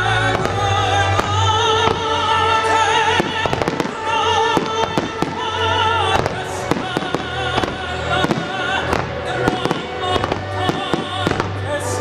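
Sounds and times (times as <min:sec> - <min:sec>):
fireworks bangs and crackles: 0:00.0 - 0:12.0
loud music with held notes: 0:00.0 - 0:12.0.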